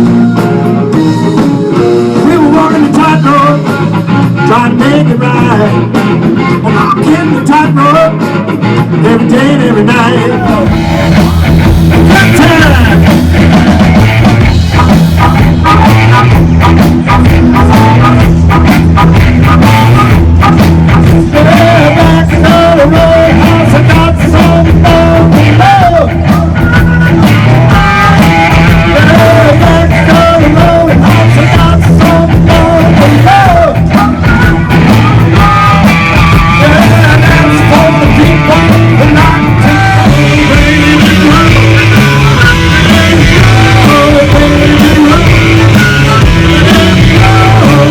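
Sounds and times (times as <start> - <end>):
person singing: 0.0 - 8.2, 9.0 - 14.4, 21.2 - 26.7, 27.7 - 47.9
drums: 0.0 - 47.9
electric guitars: 0.0 - 47.9.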